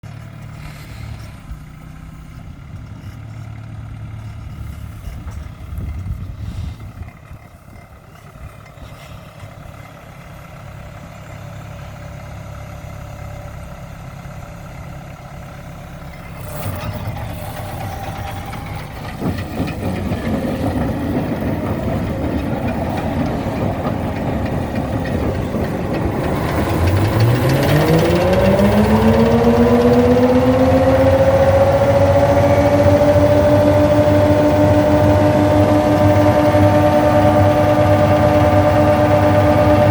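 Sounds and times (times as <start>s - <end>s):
harvester machine running: 0.0s - 39.9s.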